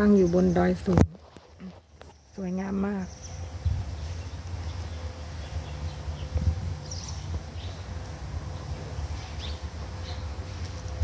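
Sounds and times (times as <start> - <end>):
low rumble on microphone: 0.9 - 11.0.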